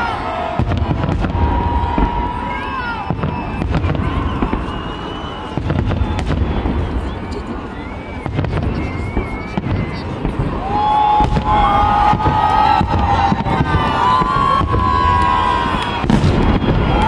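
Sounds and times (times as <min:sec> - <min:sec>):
fireworks bangs and crackles: 0:00.0 - 0:17.0
high whistling fireworks: 0:00.0 - 0:17.0.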